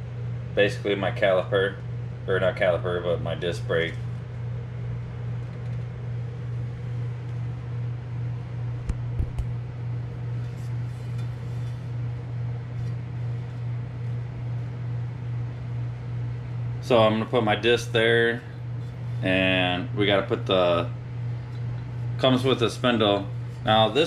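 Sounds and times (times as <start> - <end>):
pulsing mechanical hum: 0.0 - 24.0.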